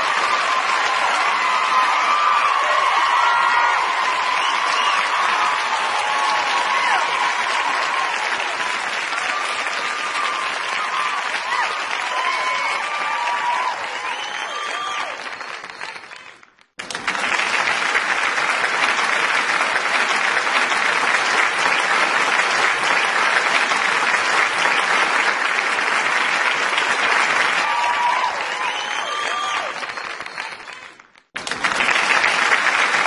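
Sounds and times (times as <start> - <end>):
audience cheering: 0.0 - 16.4, 17.0 - 33.0
audience applauding: 0.0 - 33.0.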